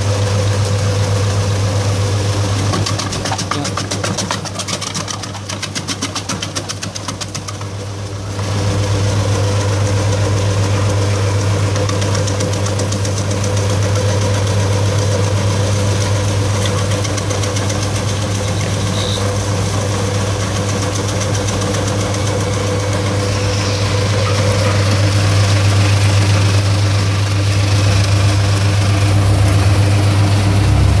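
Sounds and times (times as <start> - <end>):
electric vegetable chopper humming: 0.0 - 31.0.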